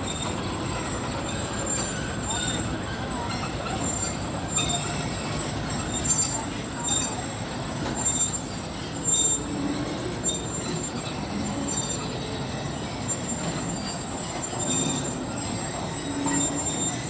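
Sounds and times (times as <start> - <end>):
high thin wheel squeal: 0.0 - 17.0
train rumble: 0.0 - 17.0.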